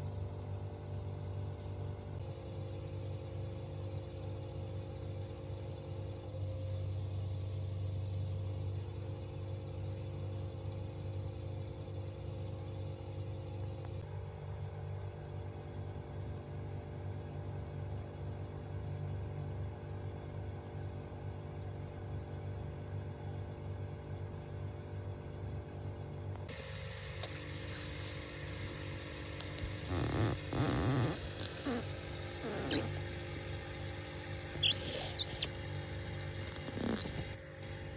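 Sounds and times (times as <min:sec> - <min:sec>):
aquarium pump hum: 0:00.0 - 0:37.9.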